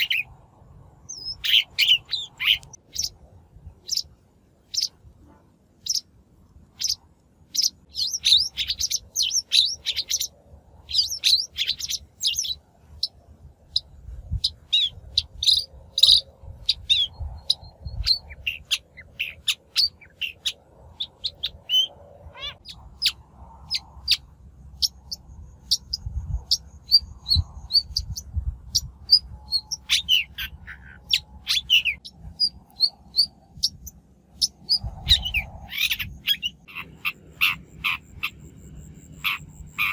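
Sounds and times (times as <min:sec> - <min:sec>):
faint low rumble: 0:00.0 - 0:39.9.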